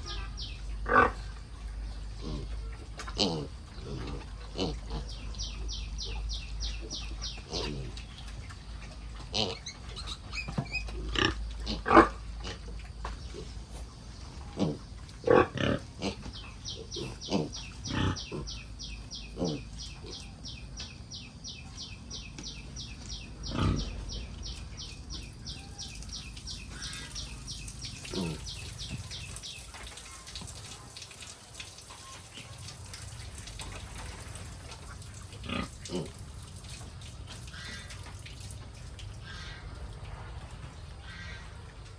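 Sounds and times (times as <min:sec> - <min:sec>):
pigs calling: 0:00.0 - 0:40.1.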